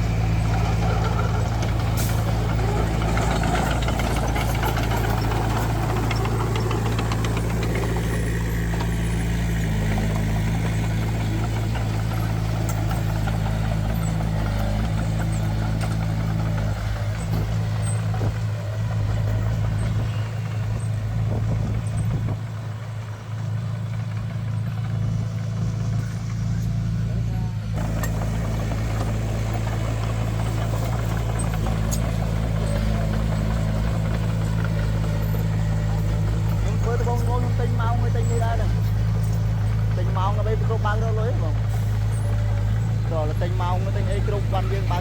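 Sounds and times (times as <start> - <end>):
diesel machinery engine hum: 0.0 - 45.0.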